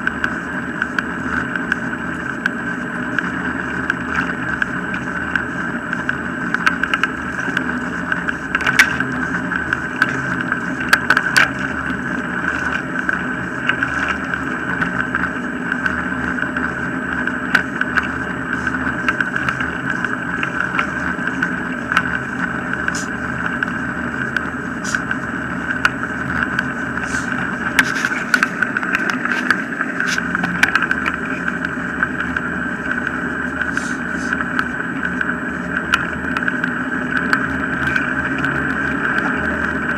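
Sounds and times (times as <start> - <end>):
wheels rolling on tarmac: 0.0 - 39.9
ticks and rattles: 0.1 - 39.9.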